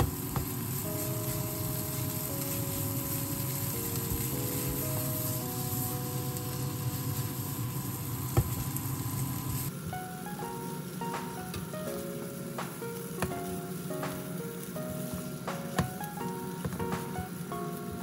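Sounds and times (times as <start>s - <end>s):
meat sizzling in a wok: 0.0s - 10.0s, 10.6s - 18.0s.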